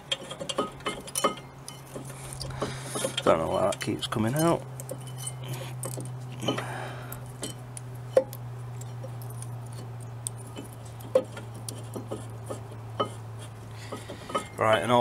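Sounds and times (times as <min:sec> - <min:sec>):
metal parts clicking and clinking: 0:00.0 - 0:13.2
steady low hum: 0:00.0 - 0:15.0.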